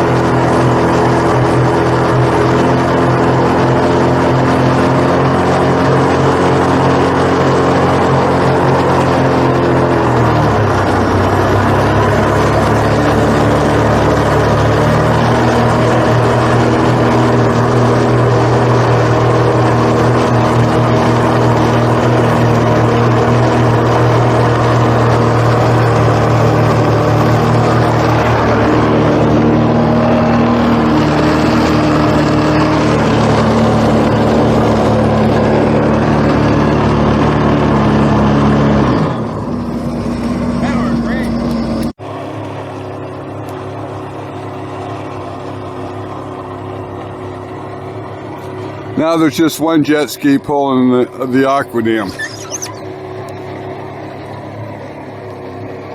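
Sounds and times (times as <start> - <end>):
jet ski engines running: 0.0 - 55.9.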